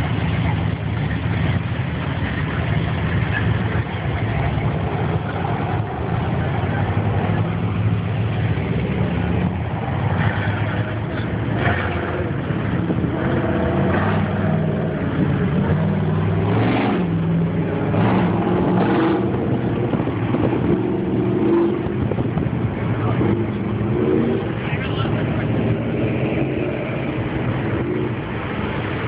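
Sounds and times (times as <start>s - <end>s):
car engines idling and revving: 0.0s - 29.0s.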